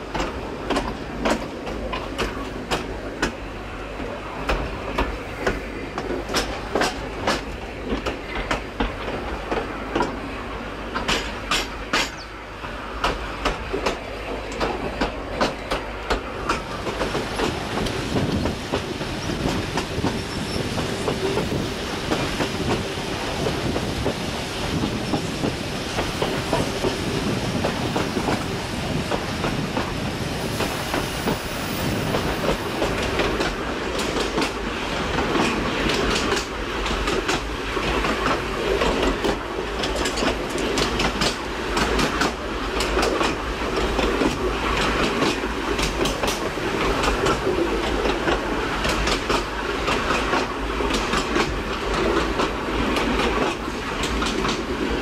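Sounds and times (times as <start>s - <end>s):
train rumbling: 0.0s - 55.0s
wheels clicking over rail joints: 0.1s - 3.4s, 4.0s - 10.2s, 10.9s - 30.0s, 32.1s - 55.0s.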